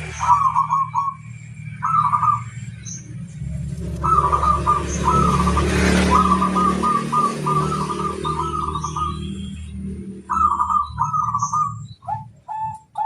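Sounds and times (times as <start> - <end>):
dove cooing: 0.0 - 2.5, 3.8 - 9.2, 10.3 - 13.0.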